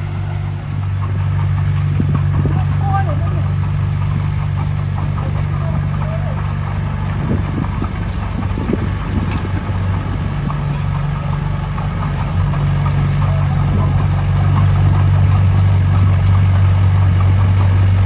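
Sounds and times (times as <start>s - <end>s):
diesel engine running: 0.0s - 18.0s
clanks and knocks: 0.8s - 18.0s.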